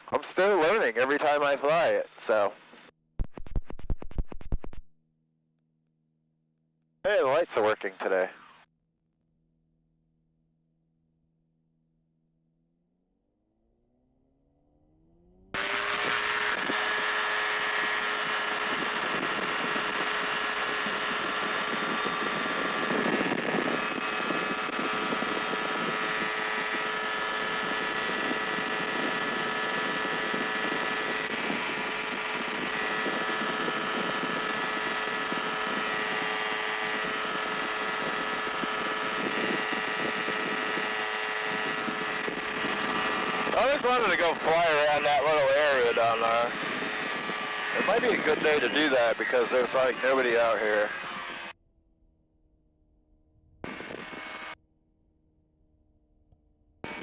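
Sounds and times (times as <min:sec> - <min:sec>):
aircraft engine and propeller drone: 0:00.0 - 0:02.9, 0:07.1 - 0:57.0.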